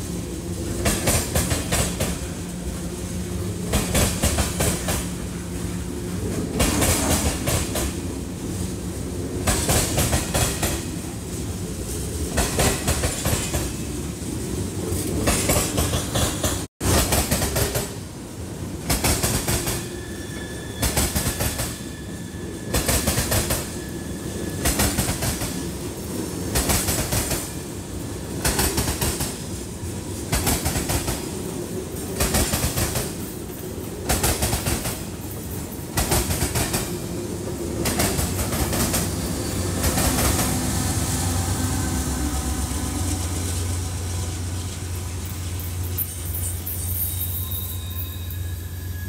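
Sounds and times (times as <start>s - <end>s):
train rumble: 0.0s - 49.0s
train wheels clattering over track: 0.6s - 8.7s, 9.3s - 14.0s, 14.9s - 18.2s, 18.8s - 47.2s.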